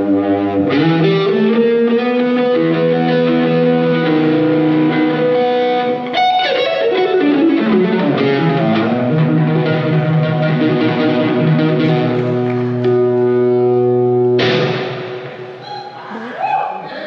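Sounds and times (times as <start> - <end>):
electric guitar sustained notes: 0.0 - 15.8.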